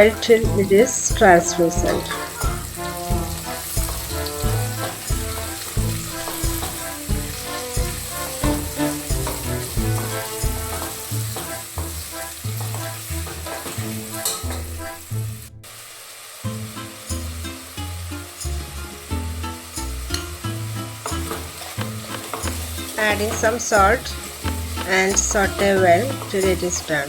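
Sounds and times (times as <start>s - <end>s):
spatula stirring in pan: 0.0s - 14.6s, 19.6s - 27.0s
onions sizzling in oil: 0.0s - 27.0s.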